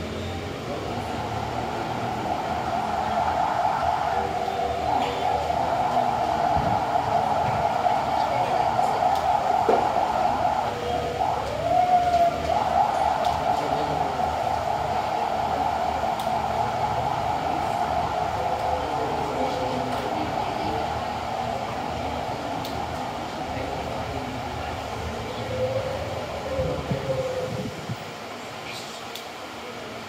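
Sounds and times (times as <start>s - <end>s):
whirring hum: 0.0s - 30.0s.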